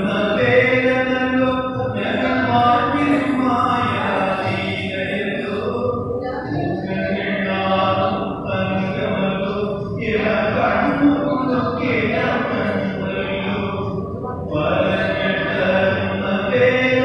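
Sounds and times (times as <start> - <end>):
voices chanting held notes: 0.0 - 17.0.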